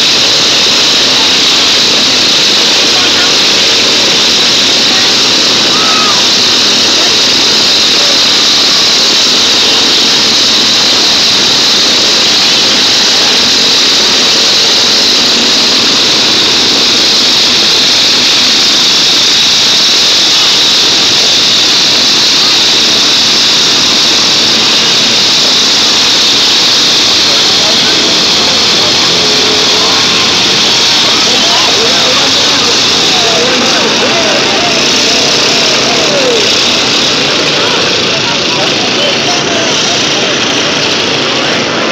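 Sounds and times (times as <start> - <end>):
many lawn mower engines: 0.0 - 41.9.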